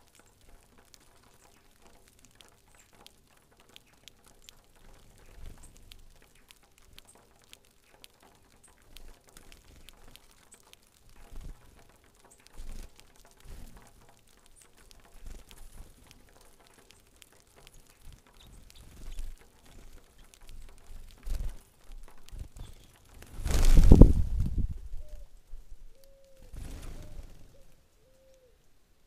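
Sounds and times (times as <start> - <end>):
beaks pecking at seed: 0.0 - 28.6.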